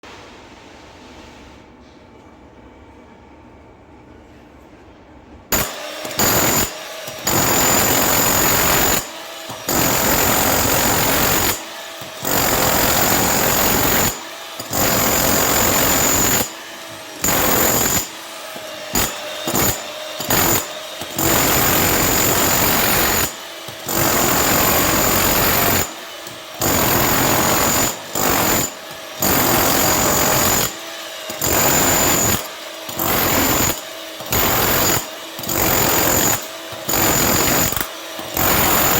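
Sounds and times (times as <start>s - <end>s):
hammer drill hammering into concrete: 5.5s - 38.9s.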